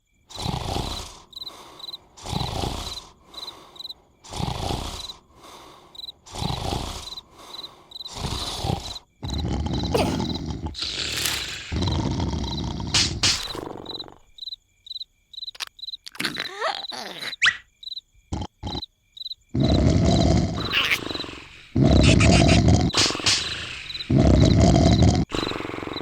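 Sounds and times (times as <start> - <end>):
crickets chirping: 0.0 - 26.0
cartoon snoring: 0.3 - 14.4, 15.6 - 17.6, 18.3 - 18.9, 19.5 - 26.0.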